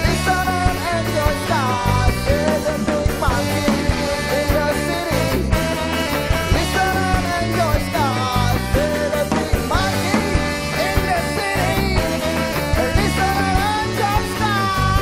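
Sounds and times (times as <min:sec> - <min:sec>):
drums: 0:00.0 - 0:15.0
electric guitars and bass: 0:00.0 - 0:15.0
man singing lead vocal: 0:00.0 - 0:15.0
trombone: 0:00.0 - 0:15.0.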